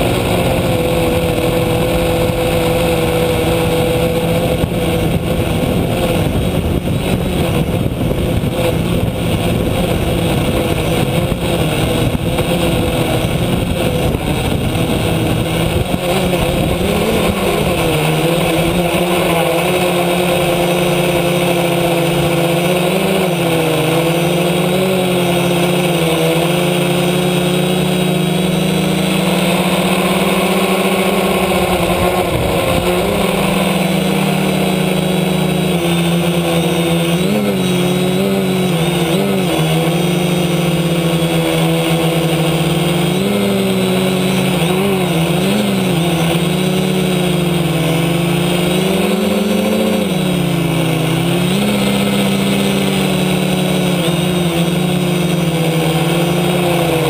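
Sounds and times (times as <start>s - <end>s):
quadcopter motors droning: 0.0s - 57.0s.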